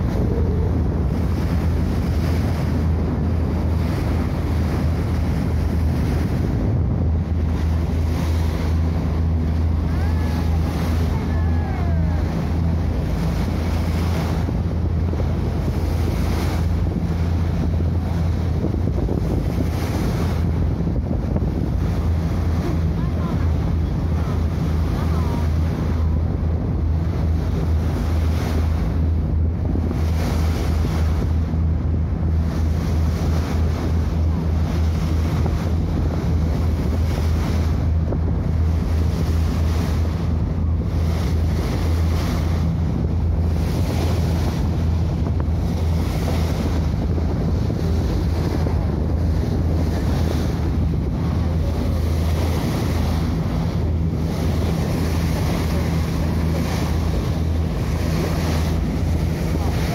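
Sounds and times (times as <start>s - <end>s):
boat engine droning: 0.0s - 59.9s
water noise: 0.0s - 59.9s
wind buffeting microphone: 0.0s - 59.9s.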